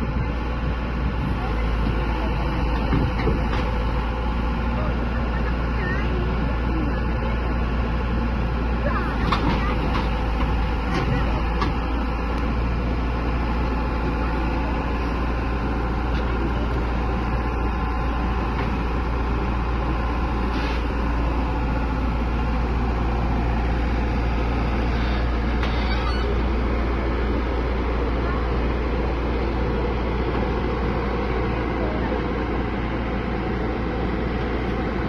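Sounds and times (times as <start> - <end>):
heavy diesel engine rumble: 0.0 - 35.0.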